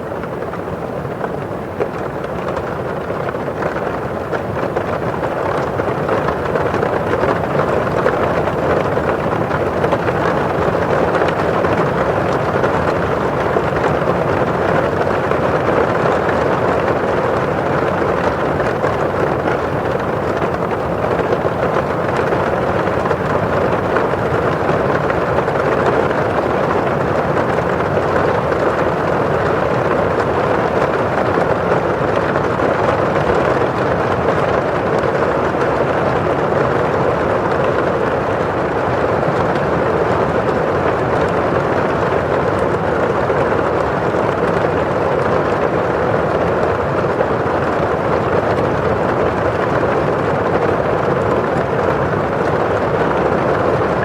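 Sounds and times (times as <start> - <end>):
rain on a windowpane: 0.0 - 54.0
rain rushing outside: 0.0 - 54.0.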